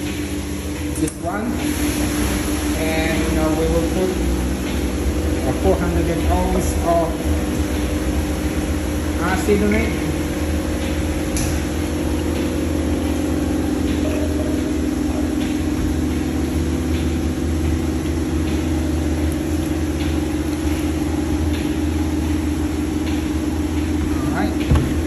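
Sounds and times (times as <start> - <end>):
motor and pump hum: 0.0 - 25.0.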